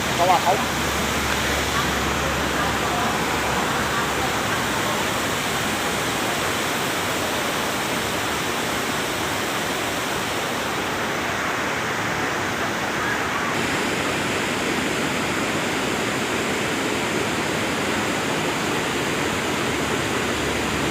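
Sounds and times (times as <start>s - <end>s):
rushing water: 0.0s - 20.9s.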